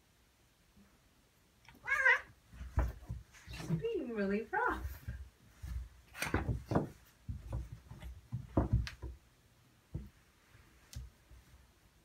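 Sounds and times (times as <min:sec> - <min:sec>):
cats scuffling in a bathtub: 0:01.8 - 0:11.8.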